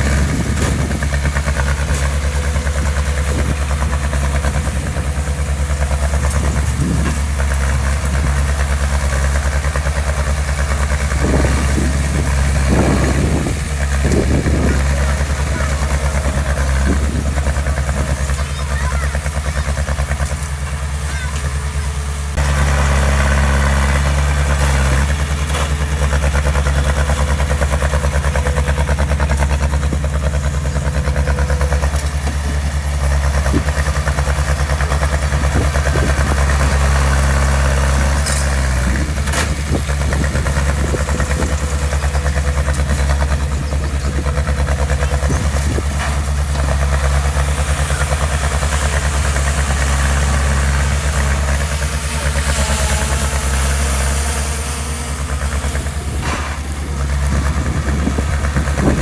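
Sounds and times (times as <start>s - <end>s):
heavy diesel engine idling: 0.0s - 59.0s.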